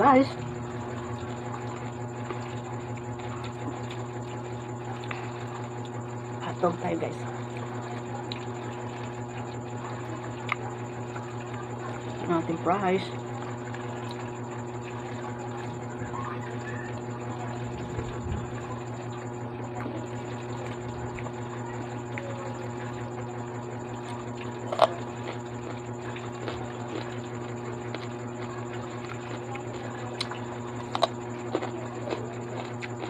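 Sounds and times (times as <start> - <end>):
steady low hum: 0.0 - 33.0
chewing and mouth sounds: 0.3 - 6.1, 6.7 - 12.5, 13.3 - 33.0.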